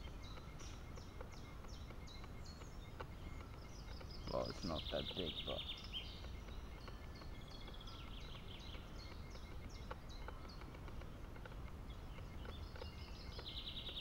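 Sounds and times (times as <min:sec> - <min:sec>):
faint clicks: 0:00.0 - 0:14.0
songbirds whistling: 0:00.0 - 0:14.0.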